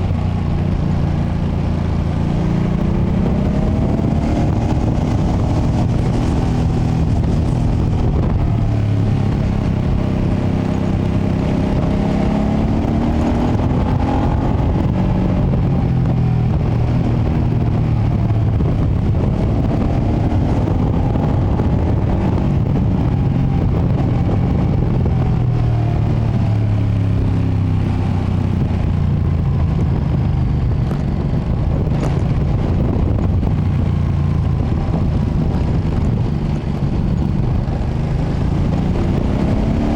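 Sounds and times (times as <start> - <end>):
low rumble on microphone: 0.0 - 39.9
motorcycle engine revving: 0.0 - 39.9.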